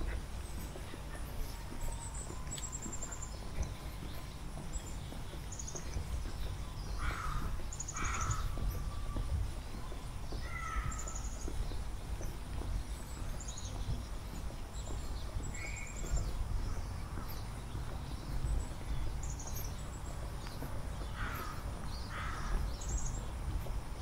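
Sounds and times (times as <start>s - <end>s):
birds trilling: 0.0s - 24.0s
low outdoor rumble: 0.0s - 24.0s
lower bird calls: 0.0s - 24.0s.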